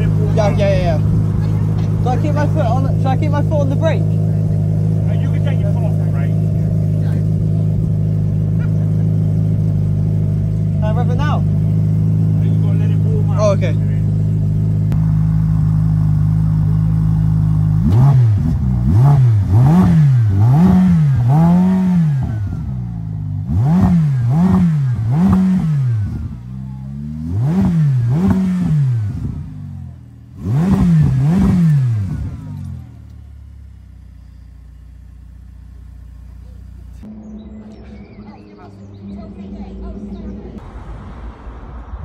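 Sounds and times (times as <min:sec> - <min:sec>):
car engine idling: 0:00.0 - 0:42.0
engine revving in throttle blips: 0:00.0 - 0:42.0.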